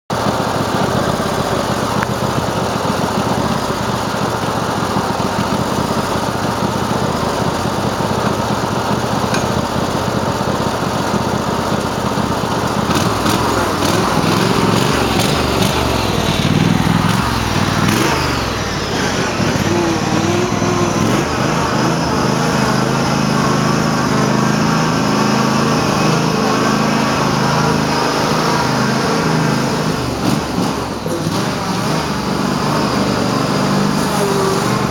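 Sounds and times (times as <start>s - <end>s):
garden tractor engine running: 0.1s - 34.9s.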